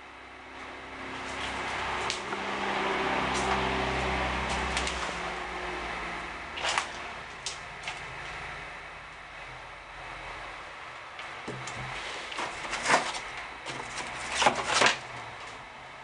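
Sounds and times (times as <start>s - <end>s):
low hum: 0.0s - 14.4s
broad rushing noise: 0.0s - 15.4s.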